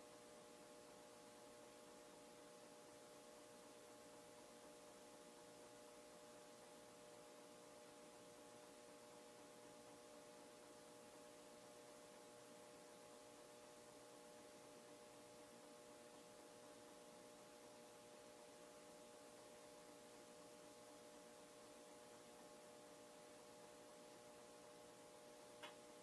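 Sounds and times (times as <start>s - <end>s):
ceiling fan motor humming: 0.0s - 26.0s.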